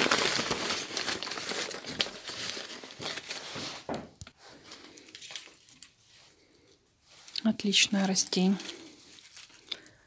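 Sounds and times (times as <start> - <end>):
paper packing crinkling: 0.0 - 6.1, 7.8 - 10.0.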